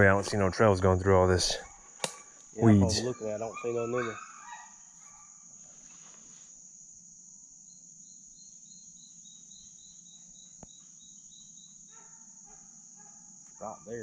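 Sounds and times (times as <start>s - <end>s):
chorus of swamp insects: 0.0s - 14.0s.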